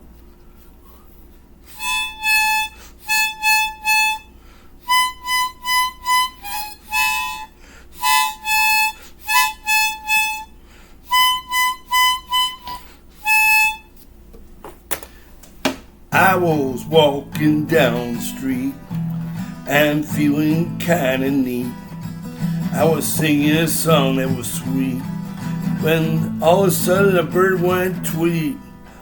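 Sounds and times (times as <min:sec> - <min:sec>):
harmonica playing: 0:01.6 - 0:14.0, 0:16.2 - 0:29.0.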